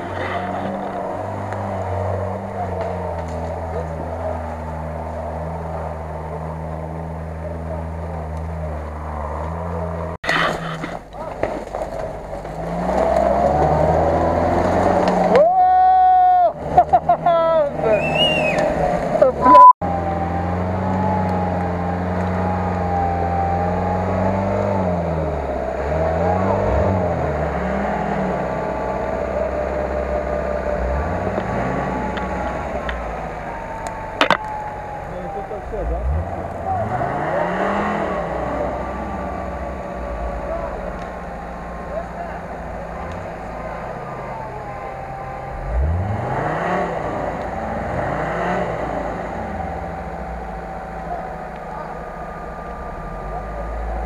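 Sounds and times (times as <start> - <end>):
off-road engine revving: 0.0 - 54.0.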